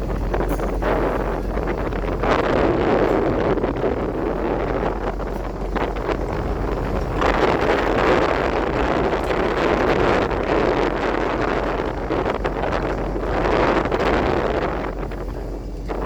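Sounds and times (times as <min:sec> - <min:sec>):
boat engine humming: 0:00.0 - 0:16.0
wind buffeting microphone: 0:00.0 - 0:16.0.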